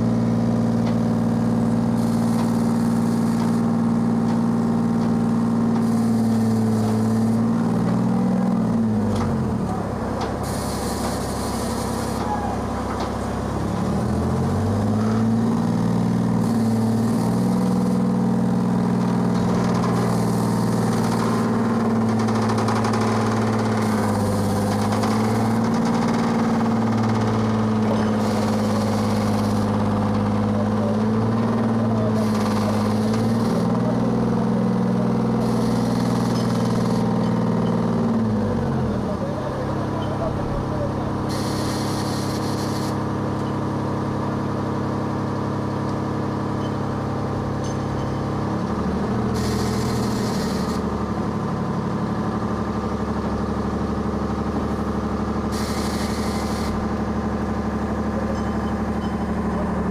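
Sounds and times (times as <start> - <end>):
crane engine running: 0.0 - 59.9.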